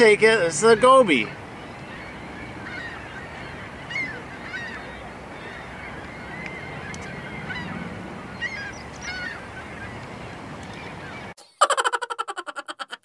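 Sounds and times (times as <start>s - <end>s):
faint bird calls: 0.7s - 11.8s.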